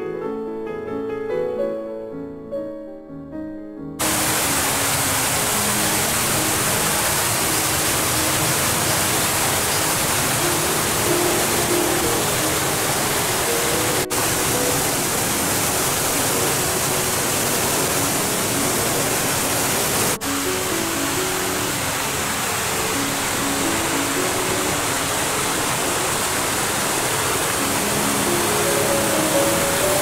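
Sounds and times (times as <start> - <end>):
soft background music: 0.0 - 30.0
waterfall rushing: 4.0 - 30.0.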